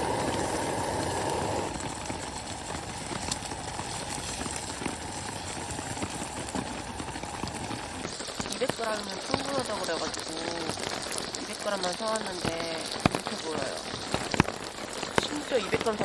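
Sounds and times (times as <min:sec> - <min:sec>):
rain pattering on a tarp: 0:00.0 - 0:16.0.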